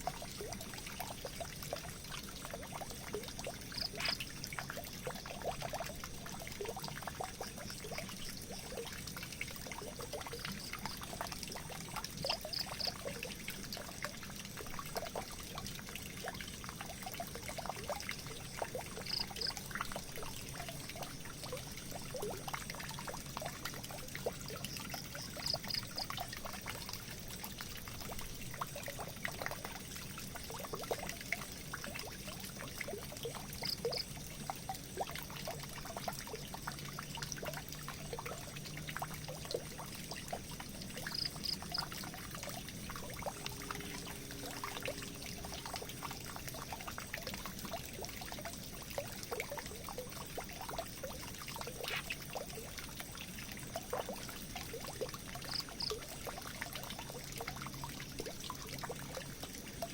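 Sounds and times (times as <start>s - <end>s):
water pouring down a drain: 0.0s - 59.9s.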